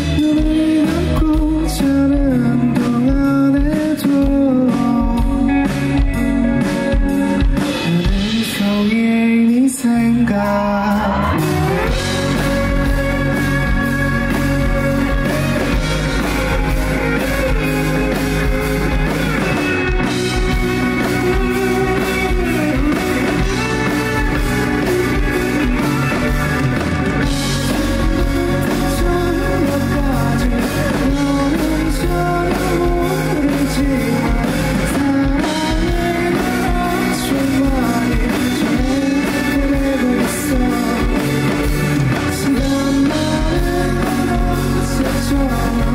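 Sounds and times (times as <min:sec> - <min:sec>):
man singing: 0:00.0 - 0:18.5, 0:19.8 - 0:26.2, 0:27.2 - 0:45.9
drum kit: 0:00.0 - 0:45.9
electric guitar: 0:00.0 - 0:45.9.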